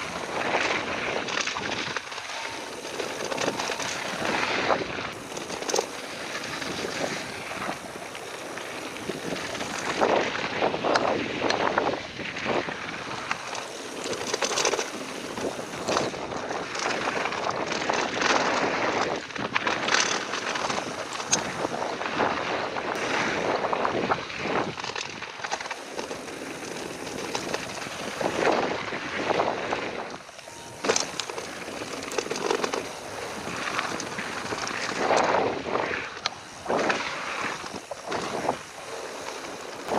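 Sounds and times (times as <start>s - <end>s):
bike rattling and knocking: 0.0s - 39.9s
tyres on loose dirt: 0.0s - 39.9s
wind rushing over microphone: 0.0s - 39.9s.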